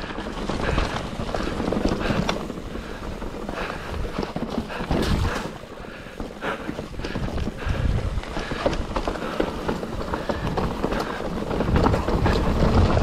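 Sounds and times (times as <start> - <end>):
bike knocking over bumps: 0.0 - 13.0
bike rattling: 0.0 - 13.0
bike tyres rumbling on dirt: 0.0 - 13.0.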